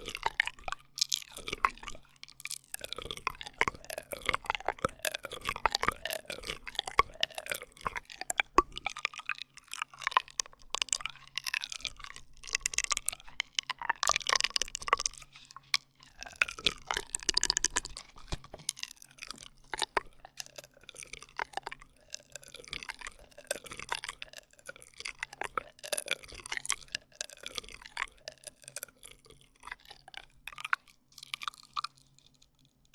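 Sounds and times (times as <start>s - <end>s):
drinking straw wet clicks: 0.0s - 32.8s.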